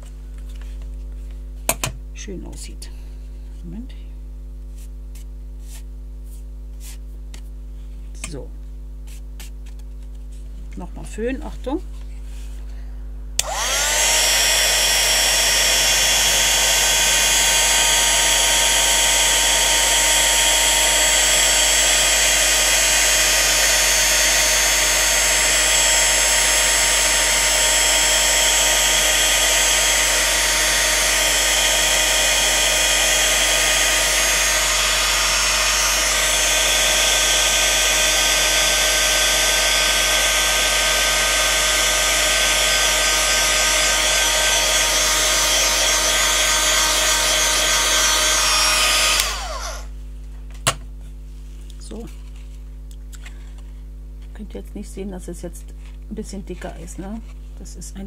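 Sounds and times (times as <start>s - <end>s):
heat tool fan whining: 9.7s - 57.6s.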